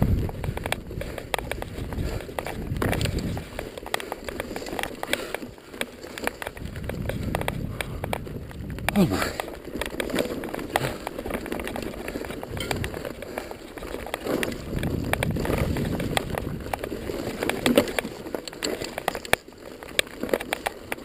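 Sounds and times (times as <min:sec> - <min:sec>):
bike rattling: 0:00.0 - 0:21.0
tyres crunching on gravel: 0:00.0 - 0:21.0.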